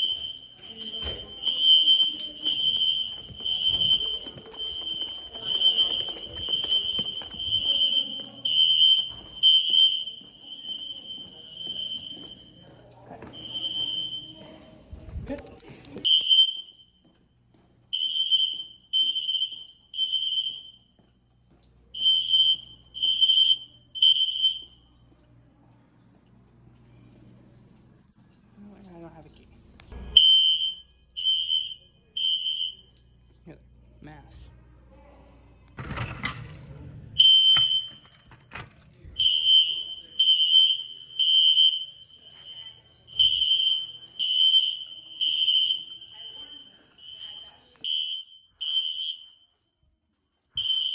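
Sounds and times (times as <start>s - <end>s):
fire alarm beeping: 0.0s - 15.0s, 16.0s - 25.2s, 29.9s - 33.4s, 35.8s - 50.9s.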